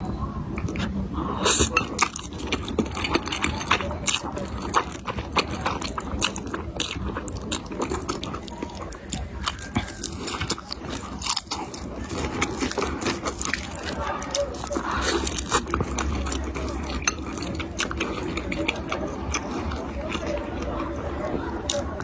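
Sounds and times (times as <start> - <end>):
person chewing food: 0.6 - 22.0.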